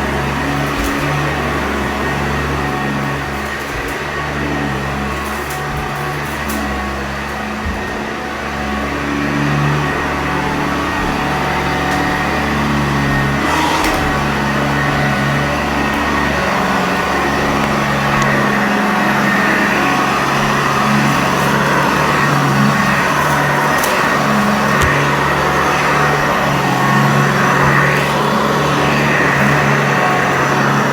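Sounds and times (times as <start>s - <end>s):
upright vacuum cleaner running: 0.0s - 30.9s.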